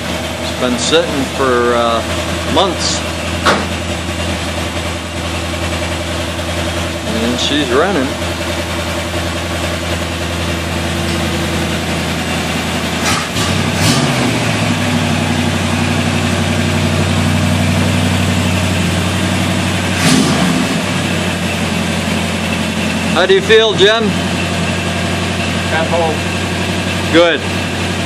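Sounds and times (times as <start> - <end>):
car engine idling: 0.0 - 28.0
engine knocks: 0.0 - 28.0.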